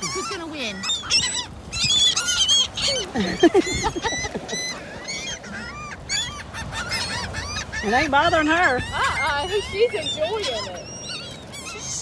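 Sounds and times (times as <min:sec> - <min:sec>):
seagulls squabbling: 0:00.0 - 0:12.0.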